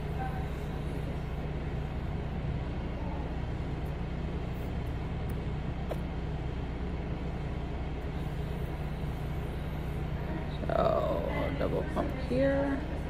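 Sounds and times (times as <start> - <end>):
vacuum pump humming: 0.0 - 13.0.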